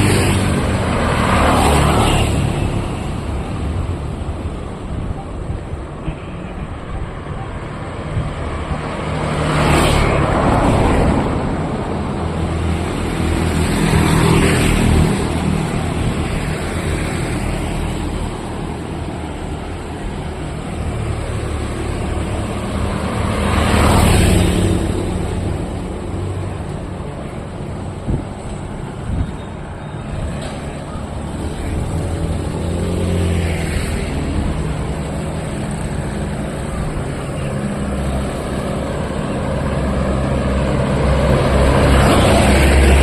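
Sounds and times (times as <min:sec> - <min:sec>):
traffic engine rumble: 0:00.0 - 0:43.0
vehicles passing close by: 0:00.0 - 0:43.0.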